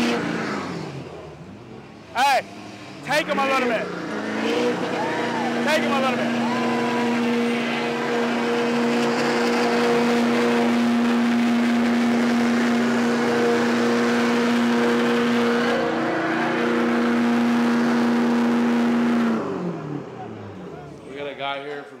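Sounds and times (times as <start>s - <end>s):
truck engine at high revs: 0.0s - 21.9s.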